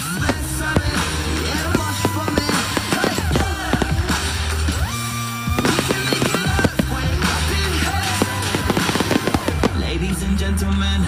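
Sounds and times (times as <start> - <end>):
fireworks popping and crackling: 0.0 - 10.4
music over loudspeakers: 0.0 - 11.0.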